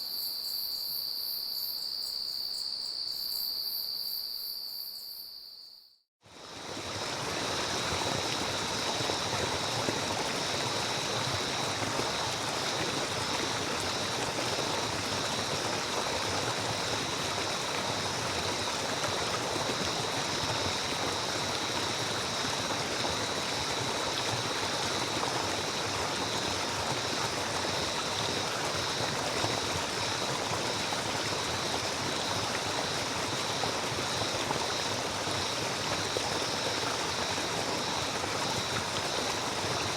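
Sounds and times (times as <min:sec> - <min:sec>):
stream water rushing: 0:06.3 - 0:39.9.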